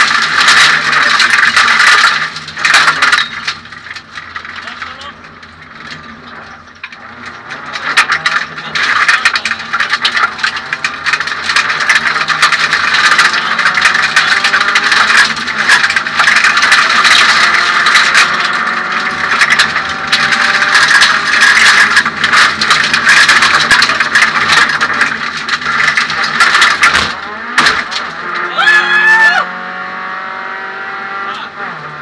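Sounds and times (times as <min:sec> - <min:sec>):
rattling and clatter: 0:00.0 - 0:28.6
car engine running hard: 0:00.0 - 0:32.0
road noise: 0:00.0 - 0:32.0.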